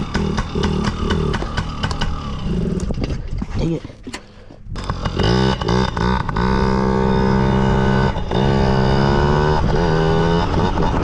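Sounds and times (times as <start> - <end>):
two-stroke engine revving: 0.0 - 3.0, 4.8 - 11.0.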